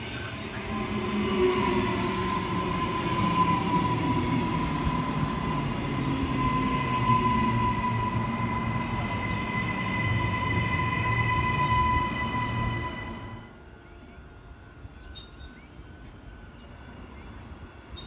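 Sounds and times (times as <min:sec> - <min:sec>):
train running rumble and whine: 0:00.0 - 0:18.0.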